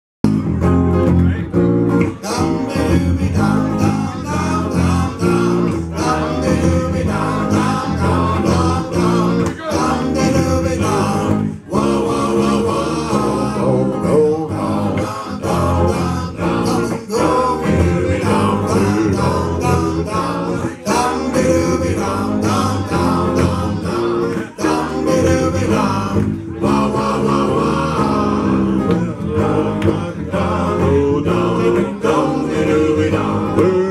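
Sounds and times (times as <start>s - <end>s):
electric bass: 0.2s - 33.9s
electric guitar: 0.2s - 33.9s
man singing lead vocals: 1.2s - 33.9s
voices singing along: 1.3s - 33.9s.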